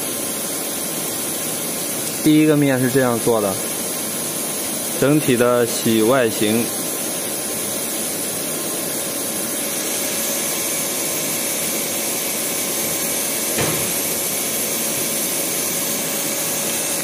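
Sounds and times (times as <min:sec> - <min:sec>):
milling machine hiss and hum: 0:00.0 - 0:17.0.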